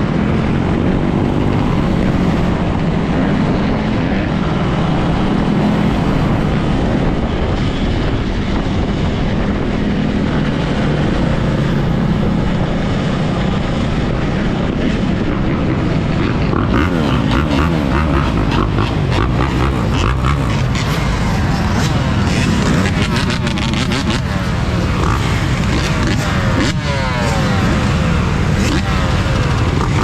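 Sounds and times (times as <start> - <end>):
motorbike riding: 0.0 - 30.0.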